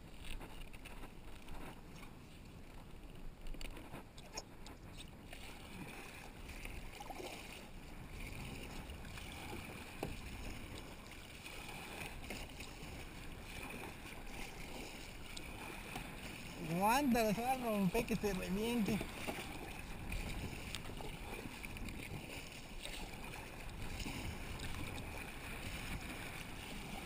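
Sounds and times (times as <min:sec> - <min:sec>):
water lapping against kayak hull: 0:00.0 - 0:27.0.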